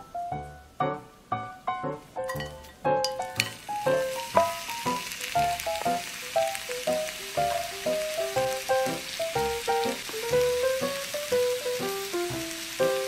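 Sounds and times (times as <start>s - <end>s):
background piano music: 0.0s - 13.0s
food sizzling in hot oil: 2.2s - 13.0s.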